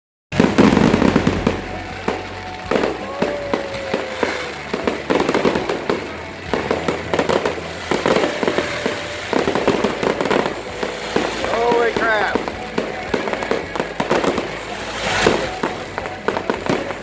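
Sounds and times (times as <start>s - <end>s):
fireworks bangs and crackling: 0.3s - 17.0s.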